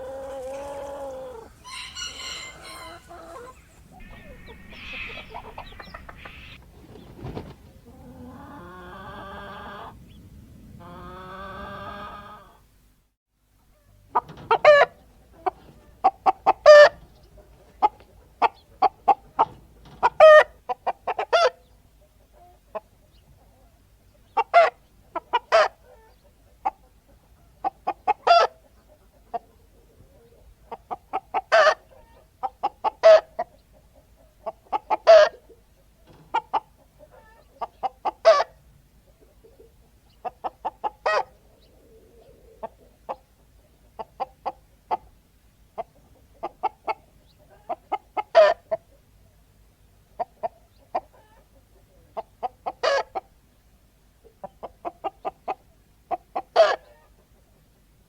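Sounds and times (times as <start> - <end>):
chickens clucking: 0.0 - 12.7, 13.6 - 57.8.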